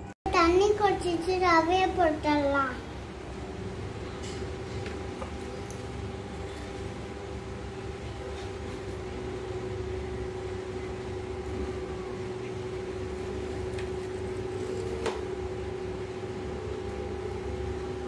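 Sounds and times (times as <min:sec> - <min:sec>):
steady pitched hum: 0:00.0 - 0:18.0.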